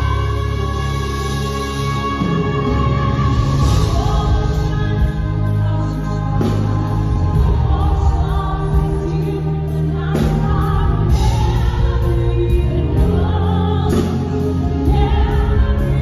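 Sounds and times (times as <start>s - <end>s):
women singing a duet: 0.0s - 16.0s.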